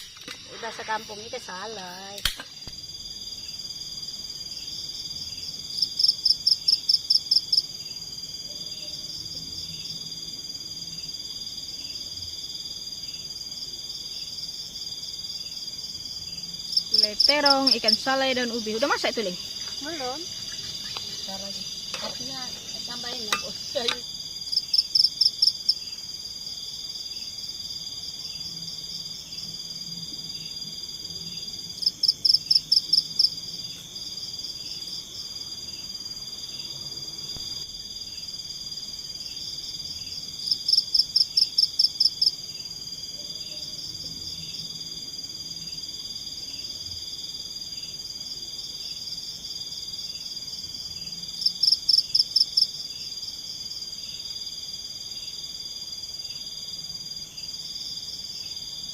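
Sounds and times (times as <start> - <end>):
insects trilling: 0.0 - 58.9
rapid pulsing insect call: 0.0 - 58.9.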